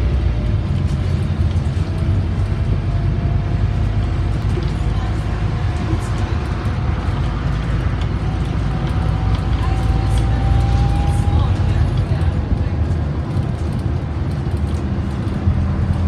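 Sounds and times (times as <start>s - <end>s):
bus diesel engine drone: 0.0s - 16.0s
road noise: 0.0s - 16.0s.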